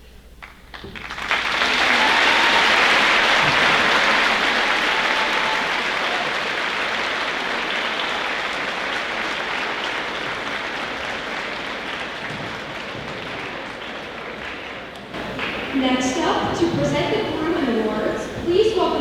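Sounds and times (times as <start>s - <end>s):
audience clapping: 0.0s - 19.0s.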